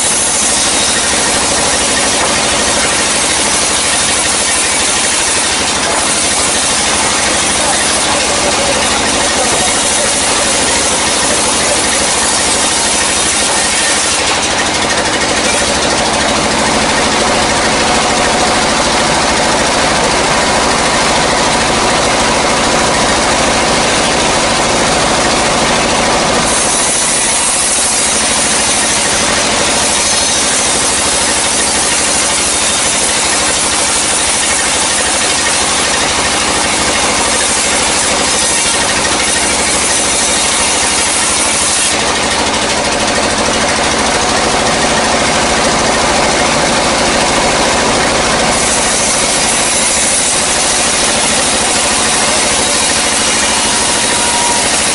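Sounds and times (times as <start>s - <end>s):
band saw cutting through log: 0.0s - 54.9s
machine running hum: 0.0s - 54.9s.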